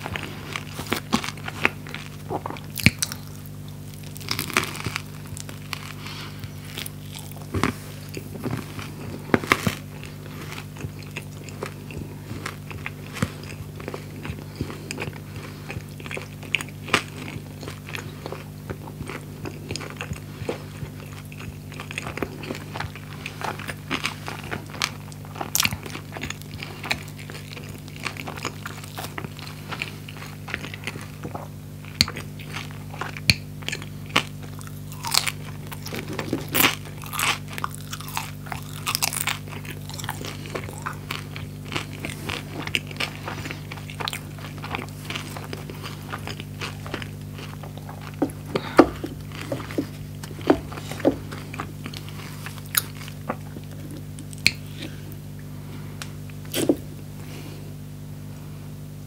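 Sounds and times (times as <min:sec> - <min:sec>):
crunchy sandwich chewing: 0:00.0 - 0:58.2
steady low hum: 0:00.0 - 0:59.0.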